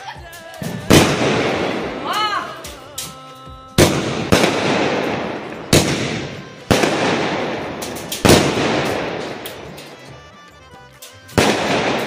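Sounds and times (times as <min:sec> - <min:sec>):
firework shells bursting: 0:00.3 - 0:12.0.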